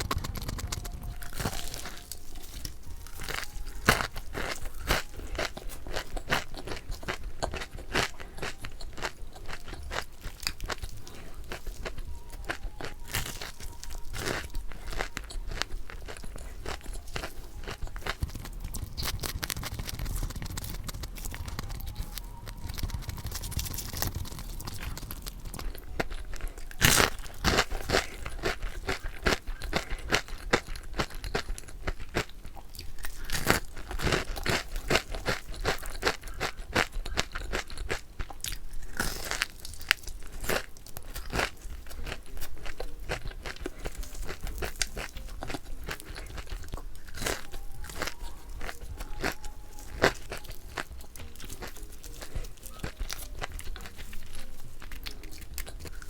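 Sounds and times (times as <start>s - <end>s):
crunchy fried chicken chewing: 0.0s - 56.0s.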